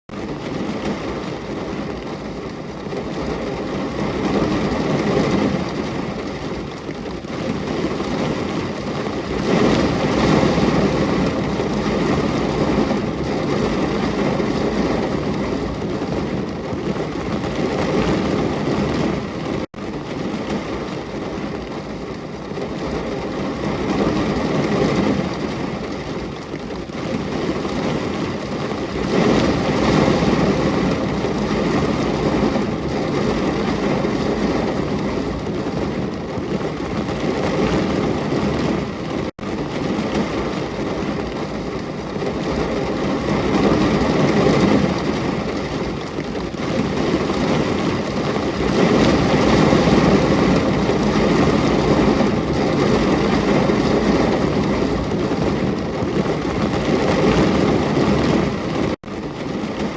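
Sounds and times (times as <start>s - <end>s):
heavy rain: 0.1s - 59.9s.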